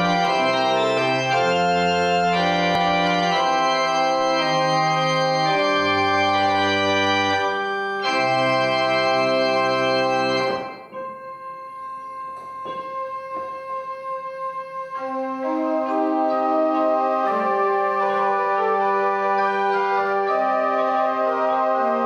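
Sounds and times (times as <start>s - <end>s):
instrumental music of held chords: 0.0s - 22.0s.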